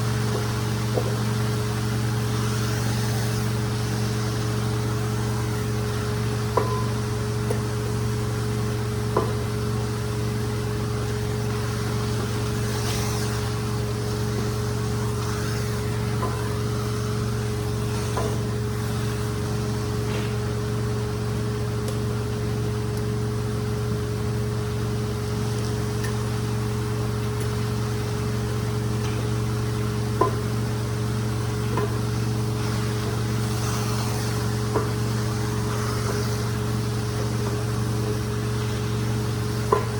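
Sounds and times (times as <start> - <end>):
rug-cleaning machine motor humming: 0.0 - 39.9.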